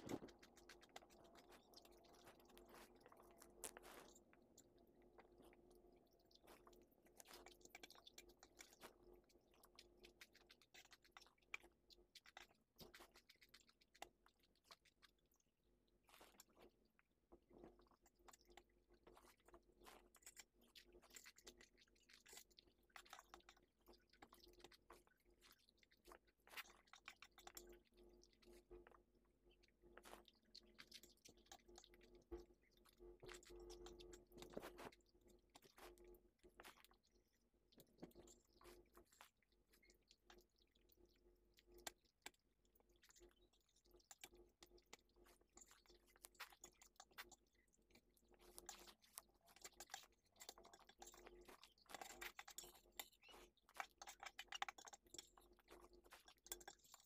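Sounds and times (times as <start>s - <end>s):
person chewing noodles: 0.0s - 15.2s, 16.0s - 29.0s, 29.6s - 57.0s.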